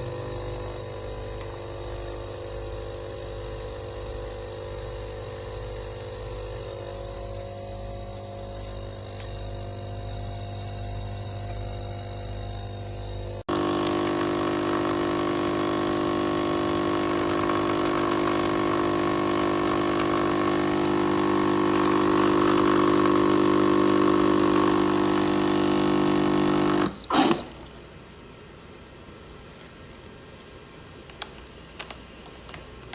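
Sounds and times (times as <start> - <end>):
coffee machine pump buzzing: 0.0 - 27.6.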